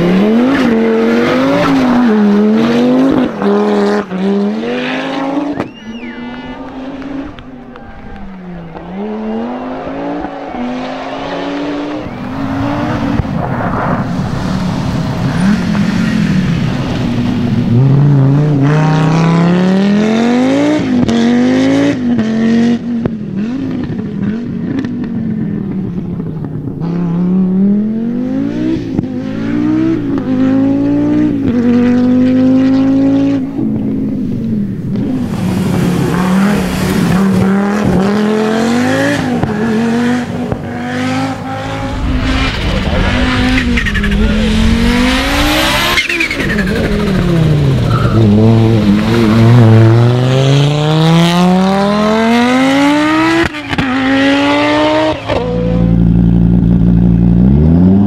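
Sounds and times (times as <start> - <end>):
rally car engines accelerating: 0.0 - 58.0.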